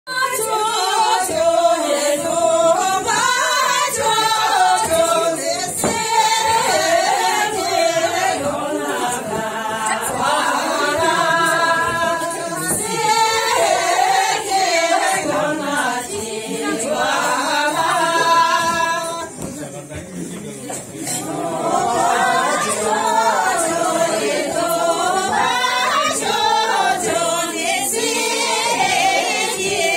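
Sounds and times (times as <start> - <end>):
women singing unaccompanied: 0.1 - 19.5, 21.1 - 29.9.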